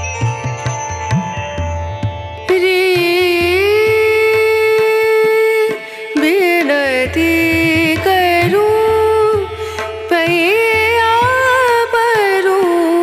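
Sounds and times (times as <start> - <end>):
sliding melody over steady beat: 0.0 - 12.8.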